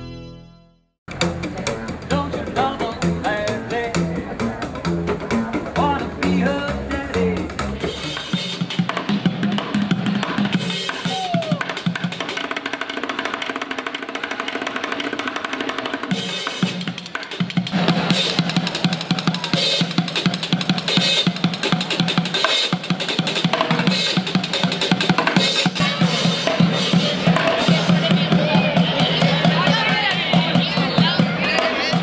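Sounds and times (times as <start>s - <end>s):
drums with snare and bass drum: 1.1s - 32.0s.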